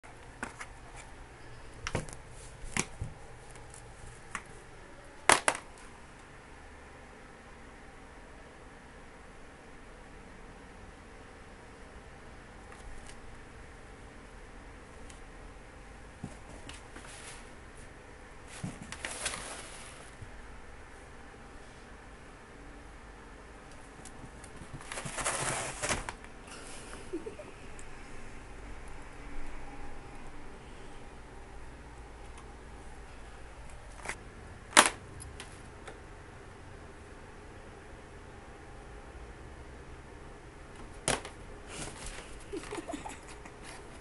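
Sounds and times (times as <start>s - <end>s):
faint room noise: 0.0s - 44.0s.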